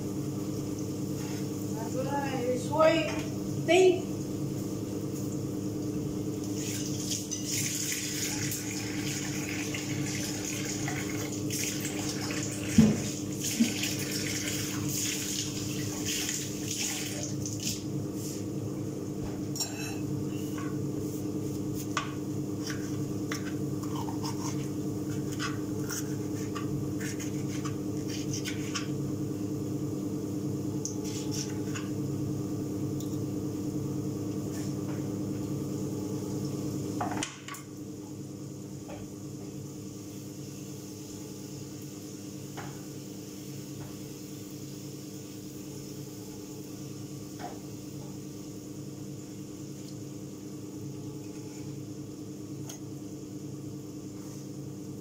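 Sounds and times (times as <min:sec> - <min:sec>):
extractor fan humming: 0:00.0 - 0:55.0.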